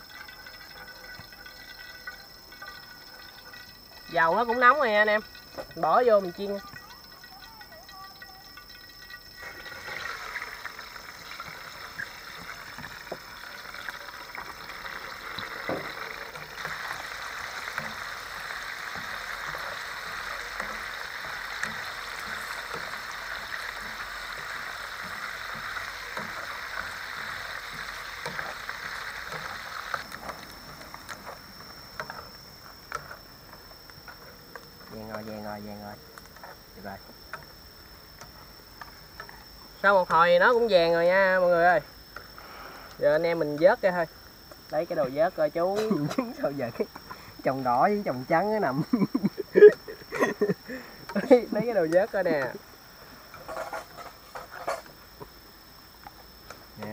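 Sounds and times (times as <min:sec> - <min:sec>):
eggs sizzling in hot oil: 0:00.0 - 0:56.9.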